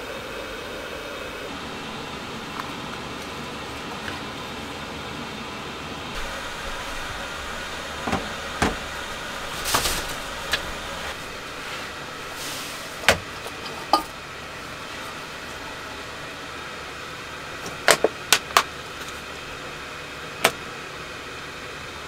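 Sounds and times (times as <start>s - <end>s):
steady hiss: 0.0s - 17.7s.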